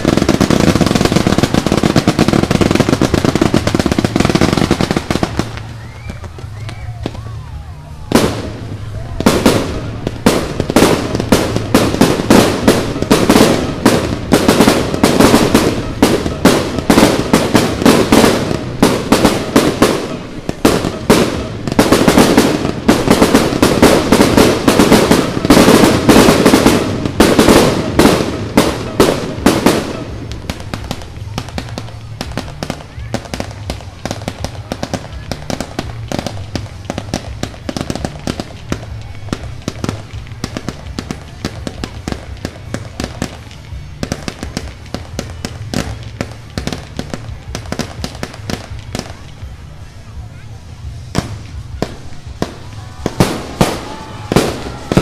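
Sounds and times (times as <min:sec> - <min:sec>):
fireworks exploding: 0:00.0 - 0:55.0.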